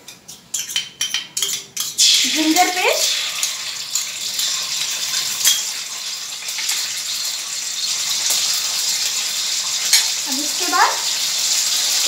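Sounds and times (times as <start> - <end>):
hot oil sizzling: 0.5 - 12.0.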